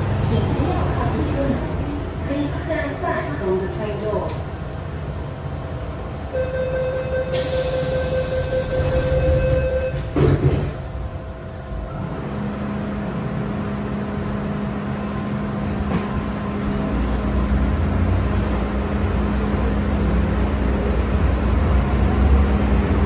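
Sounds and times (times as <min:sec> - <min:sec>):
electric train hum: 0:00.0 - 0:23.0
train rumble: 0:00.0 - 0:23.0.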